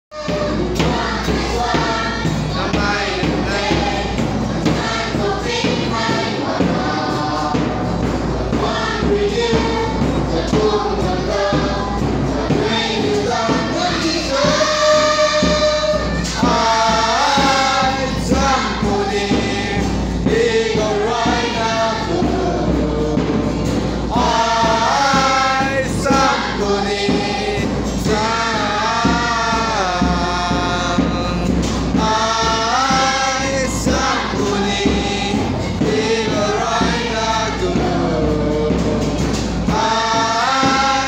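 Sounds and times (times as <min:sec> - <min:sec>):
group singing gospel song: 0:00.1 - 0:41.0
musical backing: 0:00.1 - 0:41.0.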